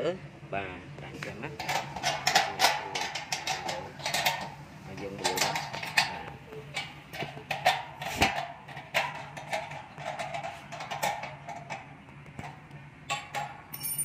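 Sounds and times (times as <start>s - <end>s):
irregular clicks and knocks: 1.6s - 13.8s.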